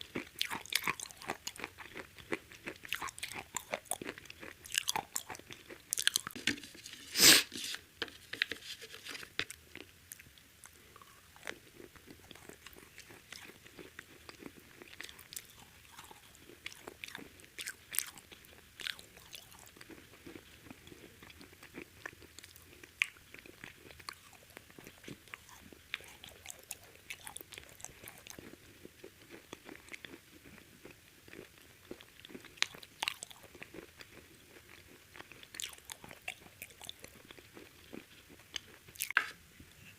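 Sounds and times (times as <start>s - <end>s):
crunchy chewing of fried chicken: 0.0s - 39.3s.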